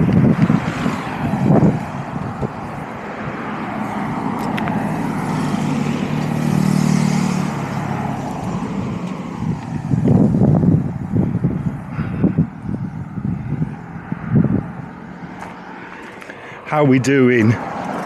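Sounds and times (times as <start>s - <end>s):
vehicle passing on road: 0.0s - 18.0s.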